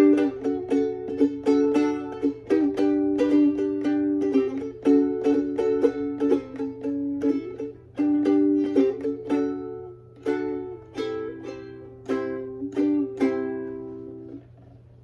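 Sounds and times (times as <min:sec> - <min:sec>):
ukulele strumming chords: 0:00.0 - 0:14.8.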